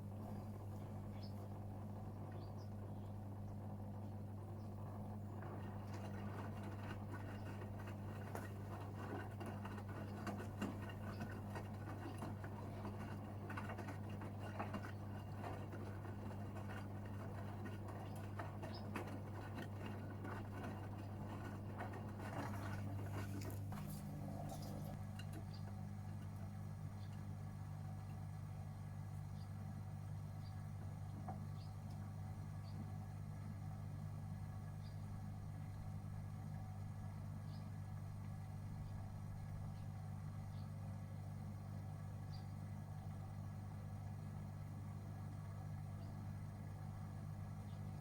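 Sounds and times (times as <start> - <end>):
motor hum: 0.0 - 48.0.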